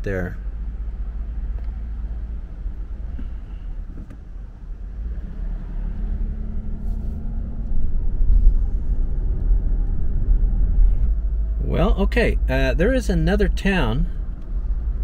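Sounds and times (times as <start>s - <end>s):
tyre and engine rumble: 0.0s - 15.0s.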